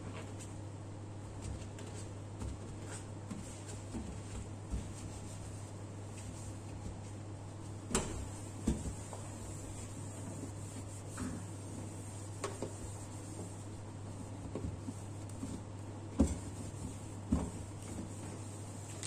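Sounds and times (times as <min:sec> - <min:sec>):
steady low hum: 0:00.0 - 0:19.0
towel wiping metal stovetop: 0:02.8 - 0:07.1, 0:08.0 - 0:19.0.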